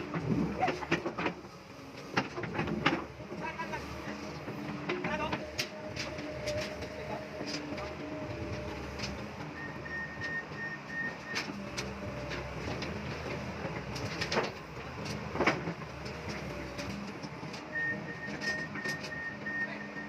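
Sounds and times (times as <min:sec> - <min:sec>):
backhoe engine running: 0:00.0 - 0:20.0.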